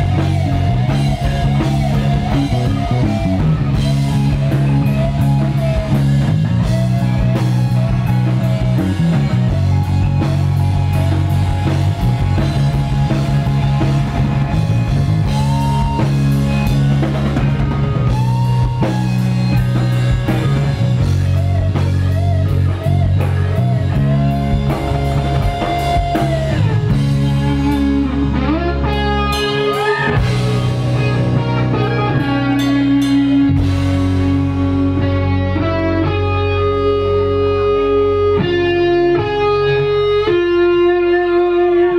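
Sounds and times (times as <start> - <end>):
bass guitar: 0.0 - 41.9
drum kit: 0.0 - 41.9
electric guitar bent notes: 0.0 - 41.9.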